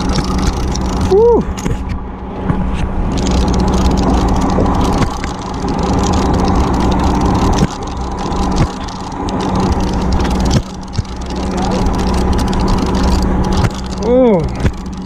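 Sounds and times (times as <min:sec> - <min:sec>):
boat engine humming: 0:00.0 - 0:15.0
loud rushing noise: 0:00.0 - 0:15.0.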